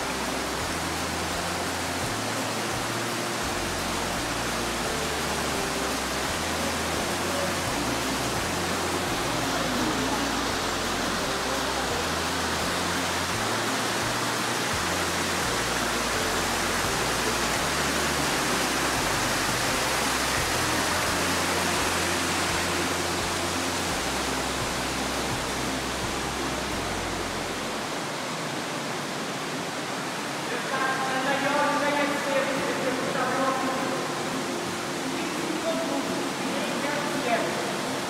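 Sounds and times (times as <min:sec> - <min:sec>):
underground river rushing: 0:00.0 - 0:38.0.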